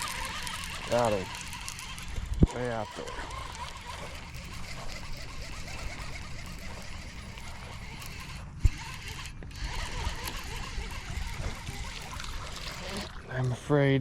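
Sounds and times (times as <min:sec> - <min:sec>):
fishing reel cranking with clicking gears: 0:00.0 - 0:13.4.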